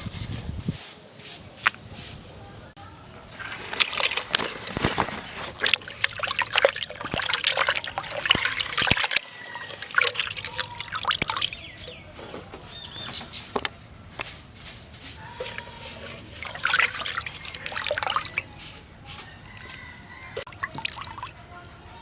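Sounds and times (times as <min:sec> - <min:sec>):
water trickling and splashing: 0:03.2 - 0:22.0.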